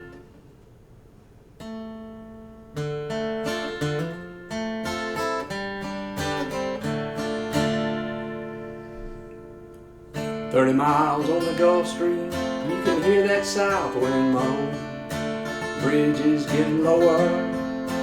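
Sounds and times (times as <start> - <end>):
acoustic guitar strumming chords: 0.0 - 1.0, 1.6 - 18.0.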